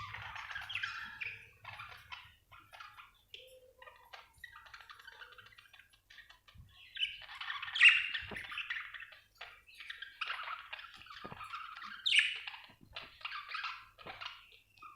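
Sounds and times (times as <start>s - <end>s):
budgerigar chattering and warbling: 0.0s - 14.9s.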